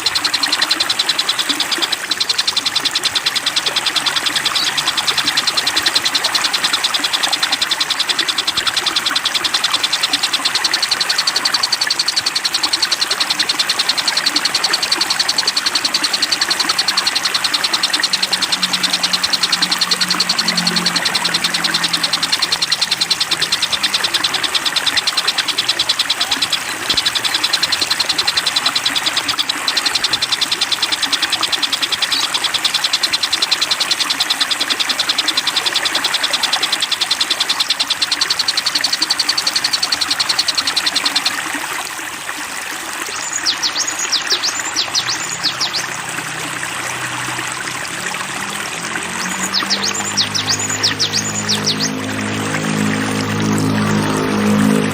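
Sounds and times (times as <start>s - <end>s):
sharp whistled bird notes: 0.0s - 41.5s, 43.0s - 54.9s
songbird trilling: 0.0s - 41.7s, 43.0s - 54.9s
running water: 0.0s - 54.9s.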